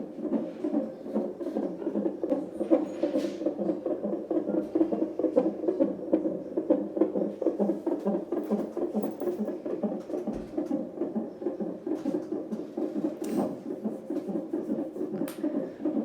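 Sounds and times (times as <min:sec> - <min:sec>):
fetal heartbeat pulsing whoosh: 0:00.0 - 0:16.0.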